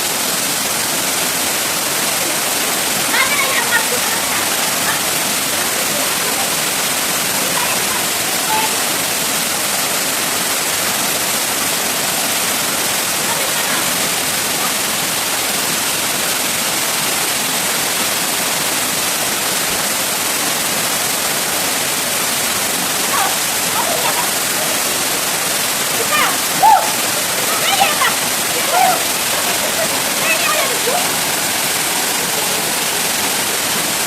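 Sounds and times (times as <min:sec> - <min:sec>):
rush of flowing water: 0:00.0 - 0:34.0.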